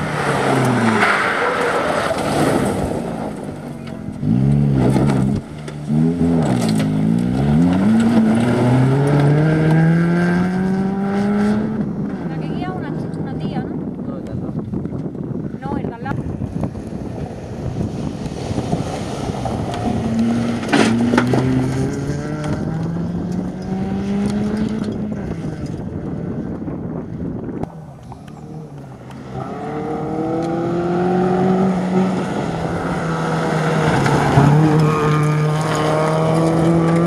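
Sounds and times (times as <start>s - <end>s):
gravel rushing under tyres: 0.0s - 9.9s, 16.2s - 37.0s
rally car engine revving: 0.0s - 14.1s, 16.5s - 37.0s.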